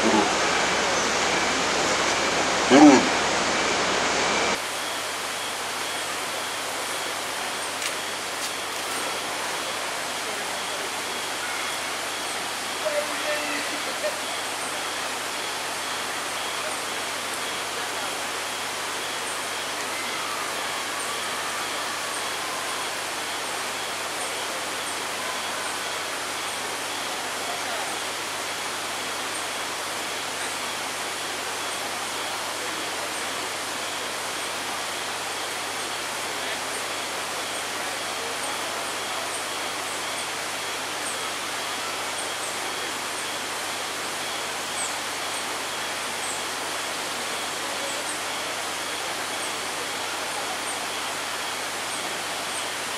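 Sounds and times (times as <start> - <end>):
faint high insect-like tone: 4.6 - 52.9.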